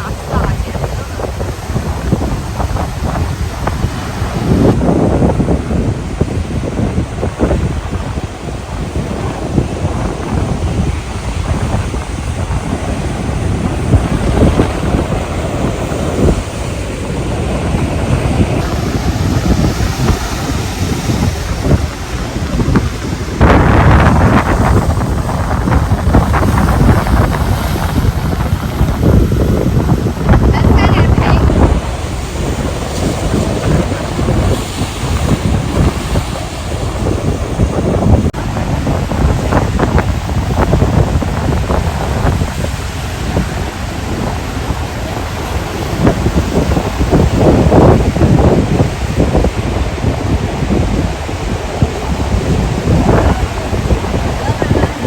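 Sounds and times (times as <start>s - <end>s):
ocean surf breaking: 0.0s - 55.0s
wind buffeting microphone: 0.0s - 55.0s.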